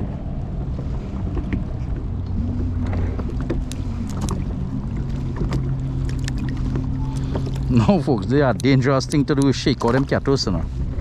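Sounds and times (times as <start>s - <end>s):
boat motor humming: 0.0s - 11.0s
water and wind noise: 0.0s - 11.0s.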